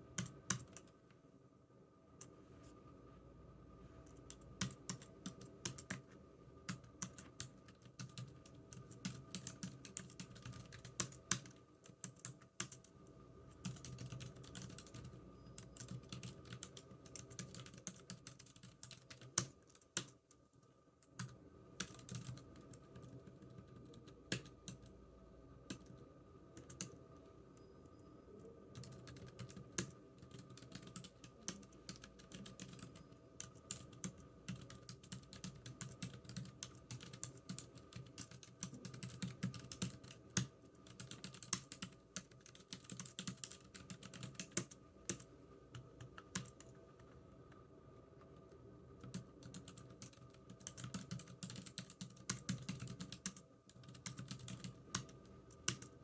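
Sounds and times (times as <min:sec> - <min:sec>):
computer keyboard typing: 0:00.1 - 0:01.0, 0:04.0 - 0:12.9, 0:13.5 - 0:20.3, 0:21.0 - 0:24.9, 0:25.6 - 0:26.0, 0:26.6 - 0:27.1, 0:28.4 - 0:47.2, 0:48.3 - 0:56.0.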